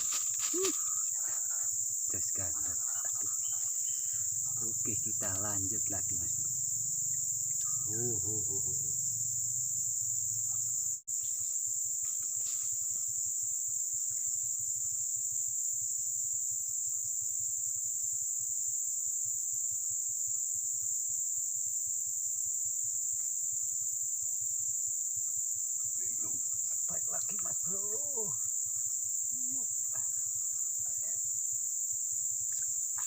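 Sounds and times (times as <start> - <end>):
insect chorus shrilling: 0.0 - 33.0.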